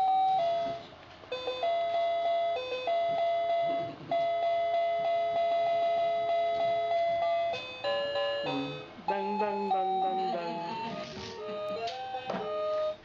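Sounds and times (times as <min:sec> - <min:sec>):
electronic toy tune: 0:00.0 - 0:13.0.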